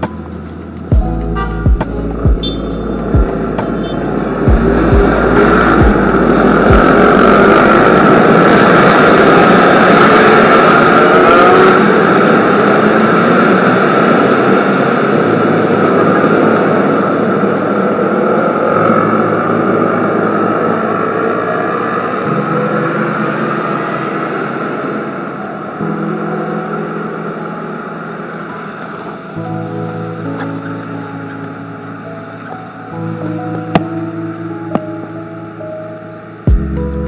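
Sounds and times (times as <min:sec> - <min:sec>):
vehicle engines humming: 0:00.0 - 0:37.0.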